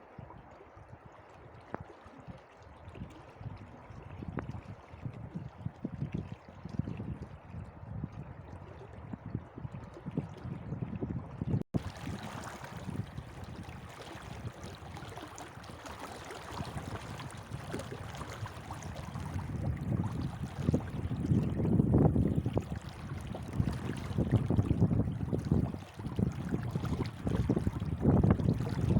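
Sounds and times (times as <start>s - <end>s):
stream running water: 0.0s - 11.2s, 11.8s - 28.9s.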